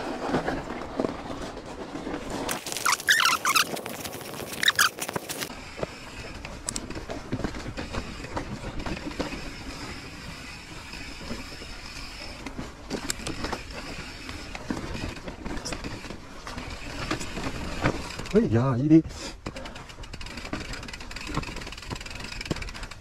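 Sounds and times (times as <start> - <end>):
bike tyres rumbling on dirt: 0.0 - 23.0
bike knocks and rattles: 0.3 - 18.7, 19.4 - 23.0.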